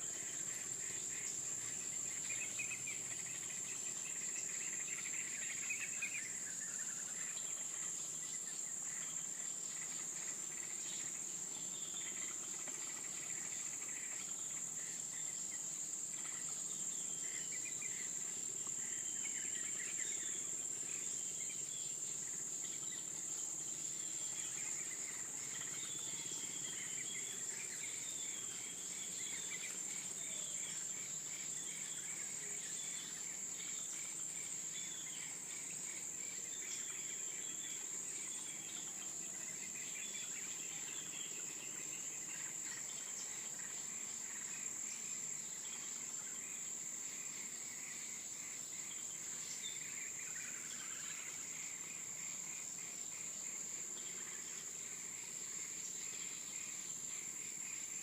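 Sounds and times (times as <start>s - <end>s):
insects droning high-pitched: 0.0s - 58.0s.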